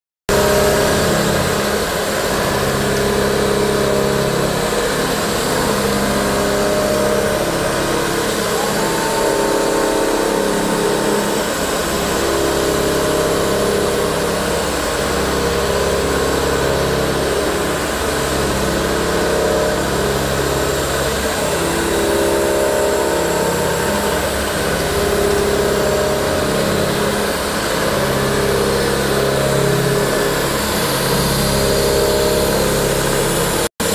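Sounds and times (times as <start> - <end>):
boring mill machine hum: 0.3 - 33.9
held machine tones shifting pitch: 0.3 - 33.9.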